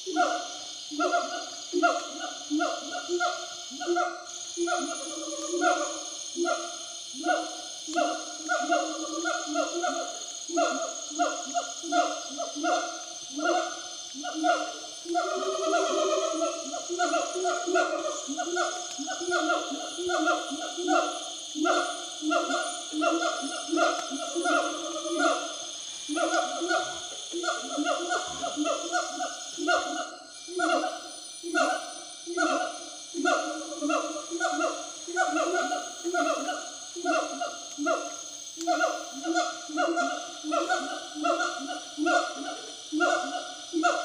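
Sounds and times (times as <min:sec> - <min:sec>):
gibbons hooting: 0:00.0 - 0:44.0
high insect buzz: 0:00.0 - 0:44.0.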